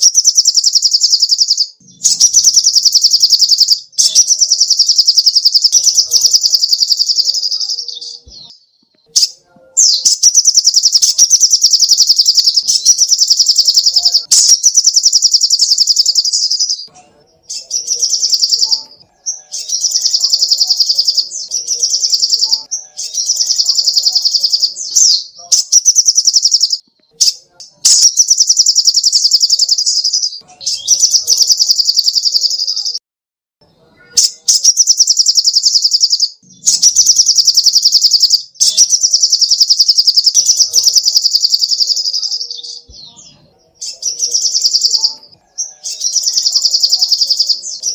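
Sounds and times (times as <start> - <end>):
bird singing rapid high notes: 0.0 - 33.0, 34.0 - 47.9.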